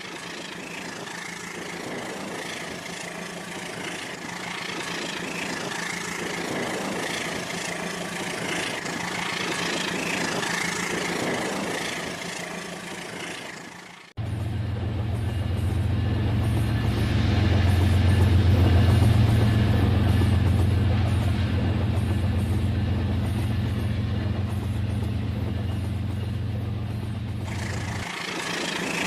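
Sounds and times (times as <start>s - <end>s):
model train running: 0.0s - 29.0s.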